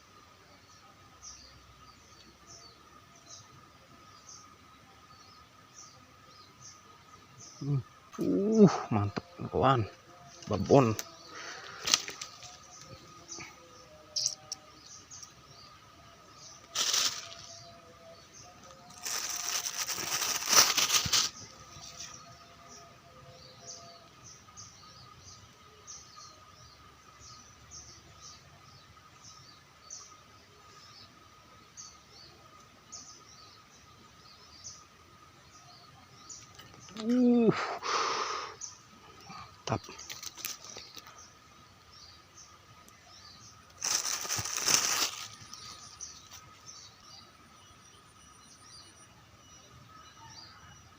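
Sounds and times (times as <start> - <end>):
birds chirping: 0.0 - 50.9
outdoor background noise: 0.0 - 50.9.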